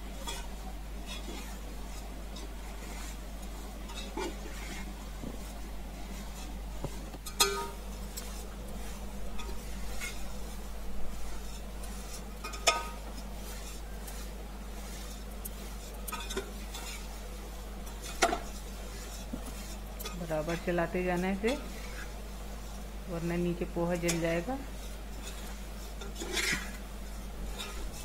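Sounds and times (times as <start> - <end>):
spatula stirring in metal pot: 0.0 - 28.0.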